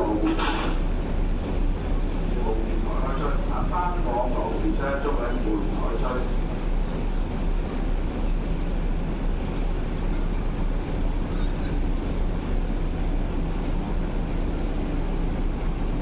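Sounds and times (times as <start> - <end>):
railway platform rumble and hiss: 0.0 - 16.0.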